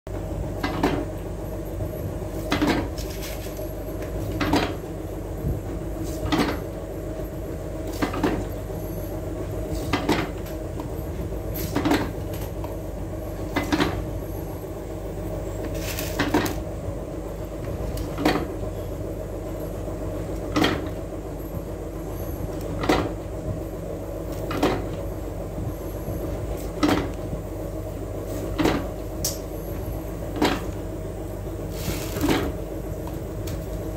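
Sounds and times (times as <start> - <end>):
steady hum: 0.1 - 33.9.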